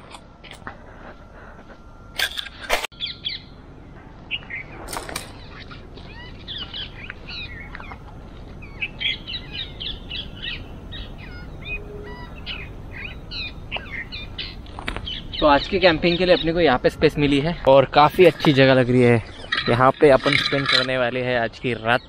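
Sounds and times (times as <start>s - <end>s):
small birds chirping: 2.9s - 3.6s, 4.2s - 22.0s.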